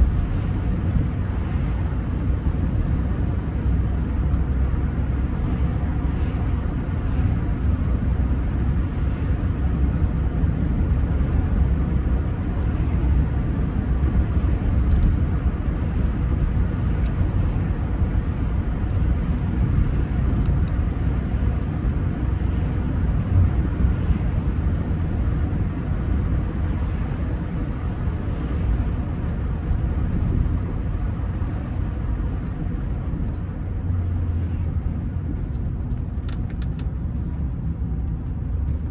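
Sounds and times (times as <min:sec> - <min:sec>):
car engine rumble: 0:00.0 - 0:38.9.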